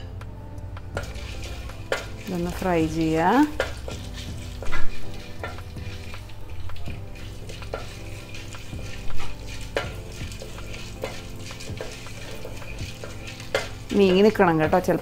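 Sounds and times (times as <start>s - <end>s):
spatula scraping pan: 1.0s - 15.0s
spices sizzling in oil: 1.0s - 15.0s.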